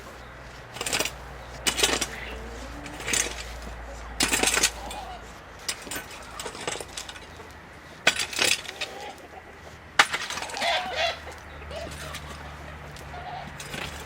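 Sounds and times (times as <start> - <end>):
sharp clatters: 0.0 - 9.2, 10.0 - 14.0
chickens clucking: 0.0 - 14.0.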